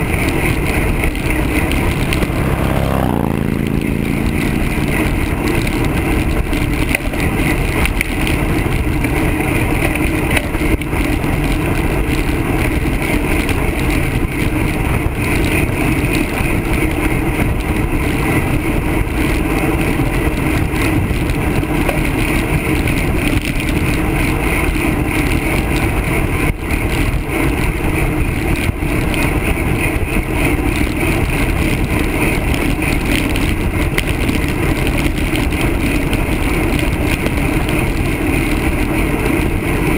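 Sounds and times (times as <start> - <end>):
bicycle road noise on asphalt: 0.0 - 39.9
wind buffeting microphone: 0.0 - 39.9.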